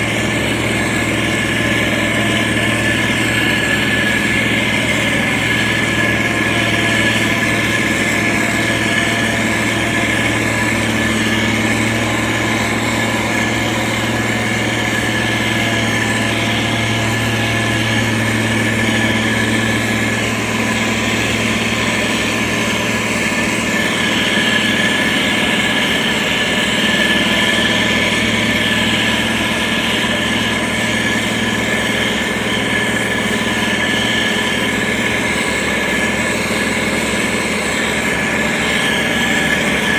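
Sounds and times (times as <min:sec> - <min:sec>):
diesel engine running: 0:00.0 - 0:39.9
high whine: 0:00.0 - 0:39.9.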